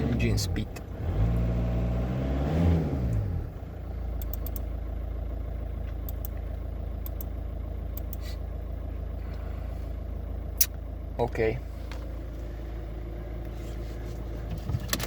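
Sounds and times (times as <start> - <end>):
engine running and idling: 0.0 - 15.0.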